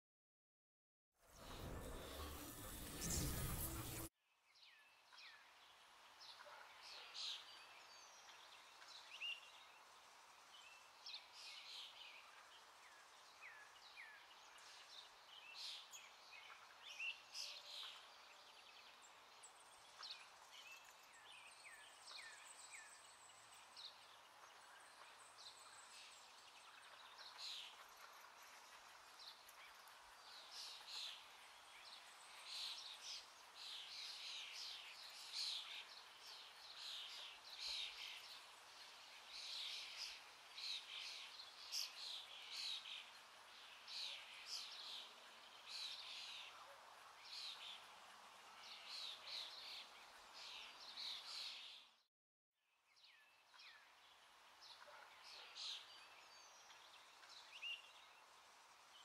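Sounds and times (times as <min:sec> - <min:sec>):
background hiss: 0:01.3 - 0:04.1, 0:05.2 - 0:51.8.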